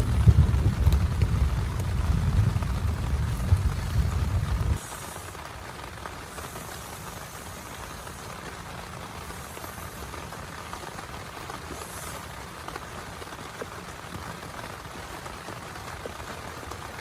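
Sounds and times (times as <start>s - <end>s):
close raindrop ticks: 0.0s - 17.0s
steady rain: 0.0s - 17.0s.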